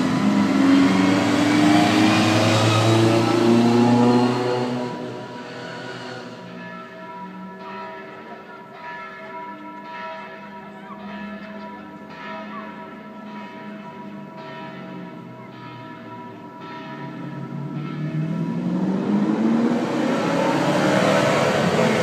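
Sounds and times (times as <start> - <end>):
bells ringing: 0.0 - 22.0.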